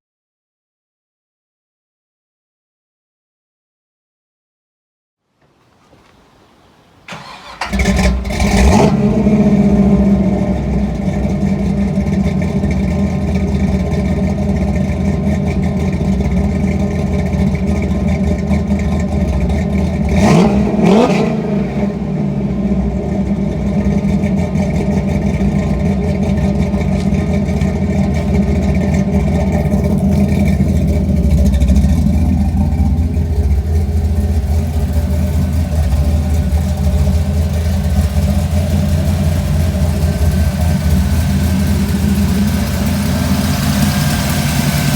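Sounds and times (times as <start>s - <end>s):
car engine idling: 5.5s - 44.9s
engine revving blips: 7.1s - 44.9s.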